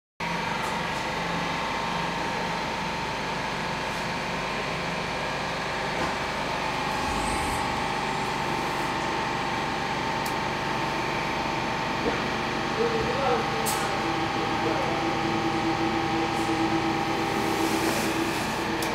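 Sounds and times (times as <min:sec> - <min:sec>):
subway car equipment hum: 0:00.2 - 0:18.9.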